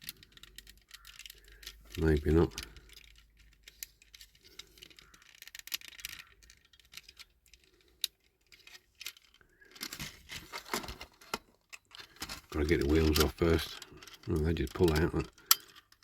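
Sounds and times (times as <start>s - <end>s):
plastic parts clicking: 0.0s - 16.0s.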